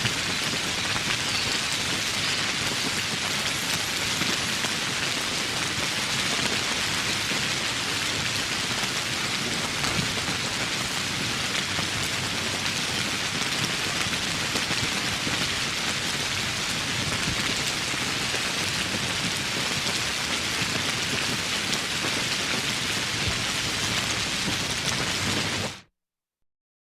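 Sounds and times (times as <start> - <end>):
steady rain in woodland: 0.0 - 25.8.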